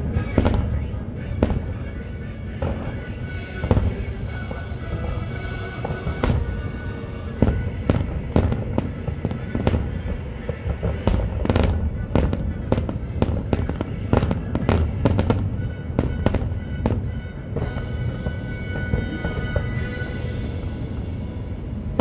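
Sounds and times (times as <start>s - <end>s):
firework shells bursting: 0.0s - 20.7s
music playing: 0.0s - 22.0s.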